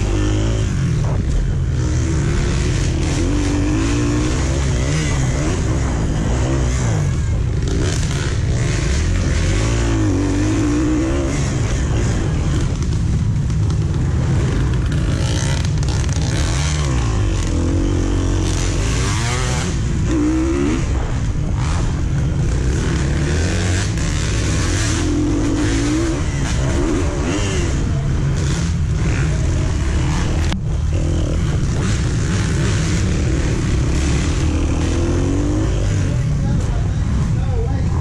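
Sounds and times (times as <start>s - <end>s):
dirt bike engine revving: 0.0s - 38.0s
steady rush of noise: 0.0s - 38.0s.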